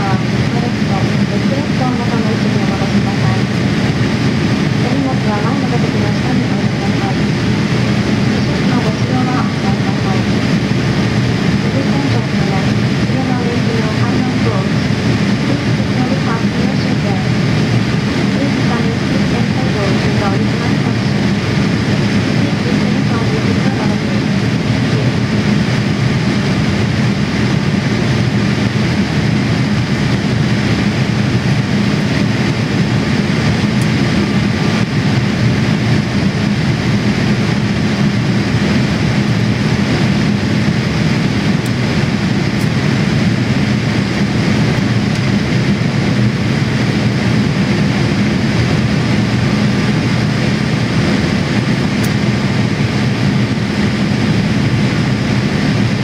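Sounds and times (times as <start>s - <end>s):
jet engines droning: 0.0s - 56.0s.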